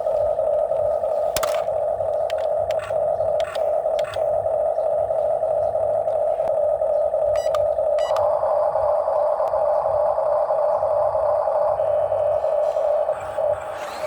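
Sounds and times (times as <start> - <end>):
diesel machinery droning: 0.0 - 14.0.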